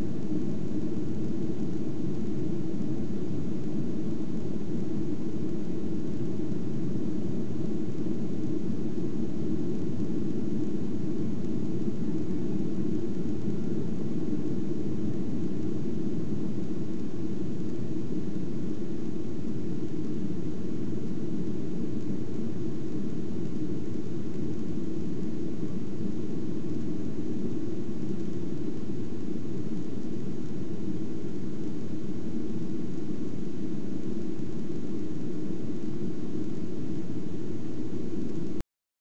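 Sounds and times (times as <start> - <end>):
jet engine cabin rumble: 0.0 - 38.6.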